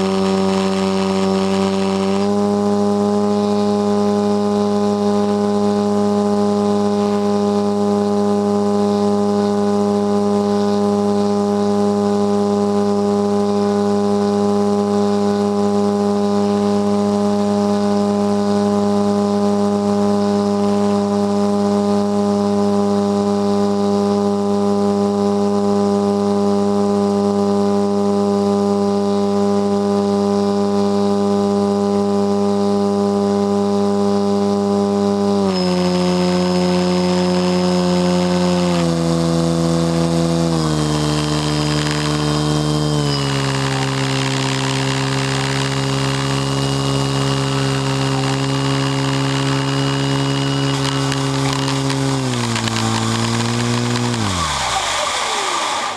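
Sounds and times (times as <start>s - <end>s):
faint high whine: 0.0s - 55.9s
model airplane motor drone: 0.0s - 55.9s.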